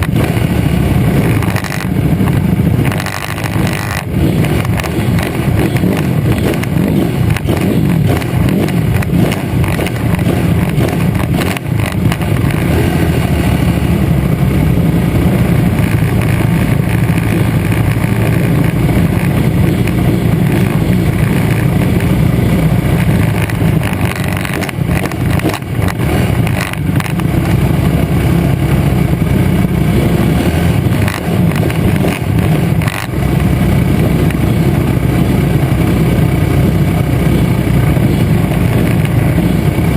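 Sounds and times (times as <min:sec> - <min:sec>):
pit bike engines racing: 0:00.0 - 0:39.9.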